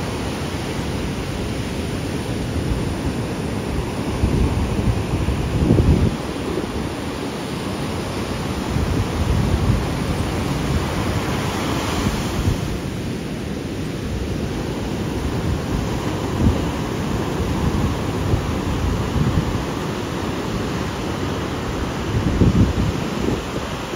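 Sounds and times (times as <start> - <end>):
ocean surf breaking on beach: 0.0 - 23.9
wind rumbling on microphone: 0.0 - 23.9.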